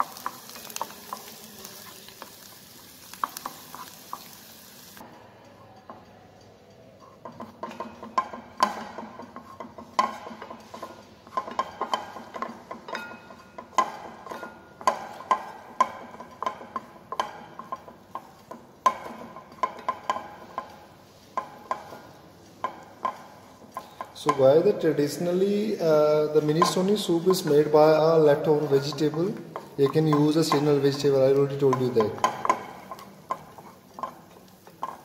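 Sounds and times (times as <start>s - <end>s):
spatula knocking and scraping pan: 0.0s - 4.4s, 7.0s - 35.0s.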